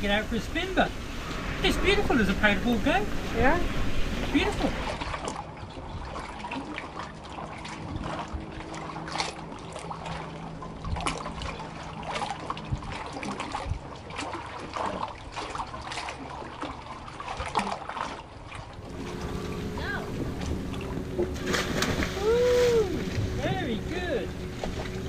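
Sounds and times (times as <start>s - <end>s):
water lapping and splashing: 0.0s - 25.0s.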